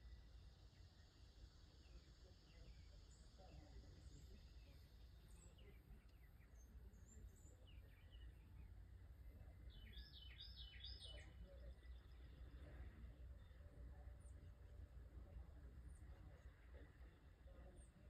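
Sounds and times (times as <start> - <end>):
faint bird chirps: 0.0 - 18.0
low steady rumble: 0.0 - 18.0.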